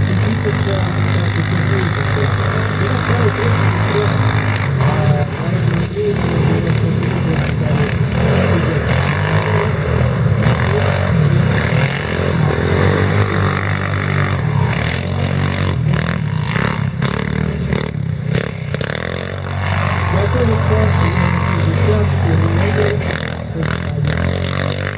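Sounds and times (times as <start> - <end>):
quad bike engines revving: 0.0 - 24.9.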